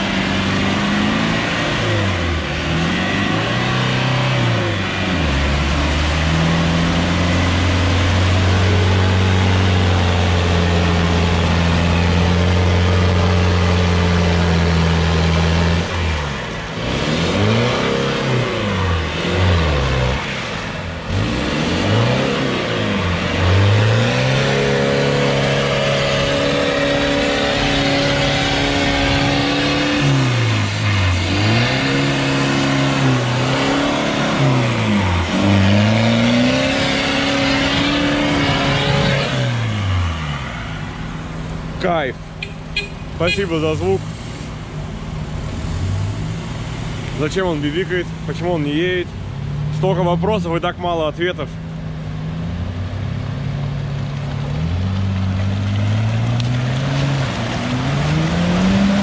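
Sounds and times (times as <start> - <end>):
off-road engine revving: 0.0 - 59.0.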